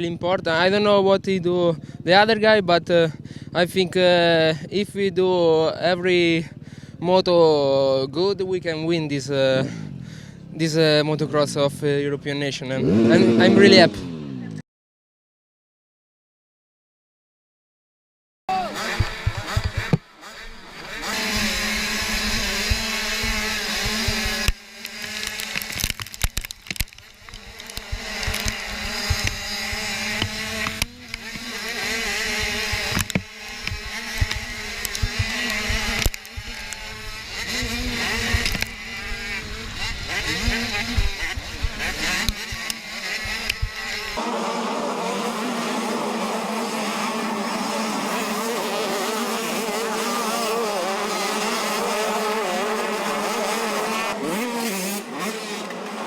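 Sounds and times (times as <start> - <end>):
motocross engines revving: 0.0 - 14.6, 18.5 - 56.0.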